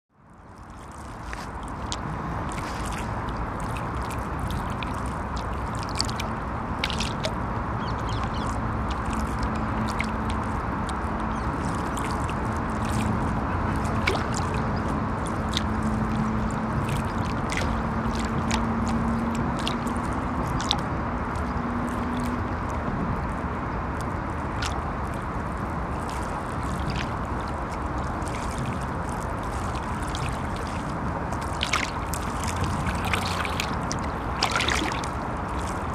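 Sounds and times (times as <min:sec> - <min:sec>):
traffic rumble on bridge: 0:00.1 - 0:35.9
river water lapping: 0:00.2 - 0:35.9
small splashes and drips: 0:00.3 - 0:35.9.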